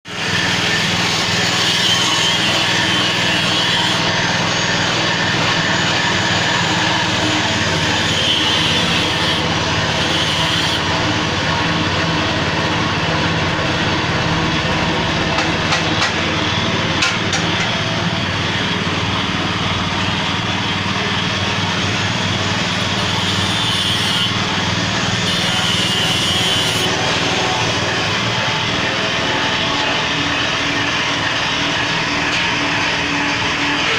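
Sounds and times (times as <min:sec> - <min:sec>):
grinding machine humming: 0:00.1 - 0:33.9.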